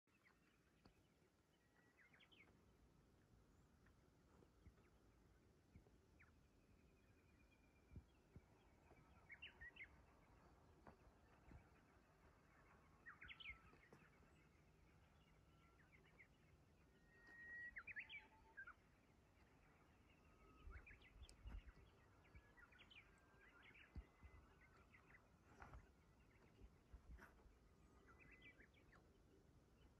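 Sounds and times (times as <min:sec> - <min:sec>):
birds singing: 0:05.8 - 0:29.9.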